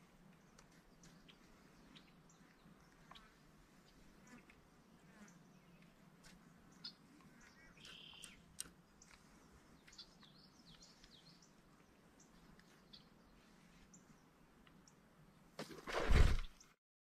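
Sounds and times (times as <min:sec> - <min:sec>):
faint birds chirping: 0:00.0 - 0:15.6.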